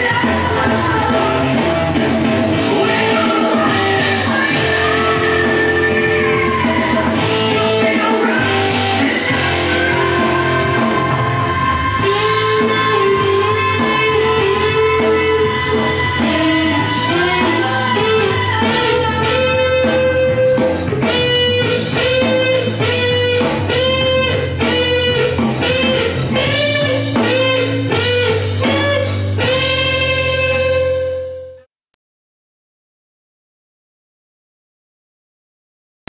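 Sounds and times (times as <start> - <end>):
electric guitar lead melody: 0.0 - 31.7.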